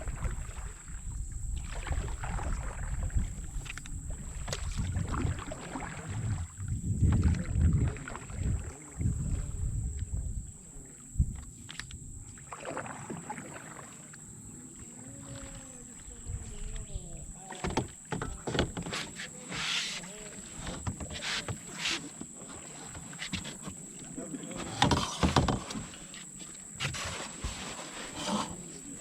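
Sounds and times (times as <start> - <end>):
paddle knocking against canoe: 0.0 - 29.0
paddle strokes splashing: 0.0 - 29.0.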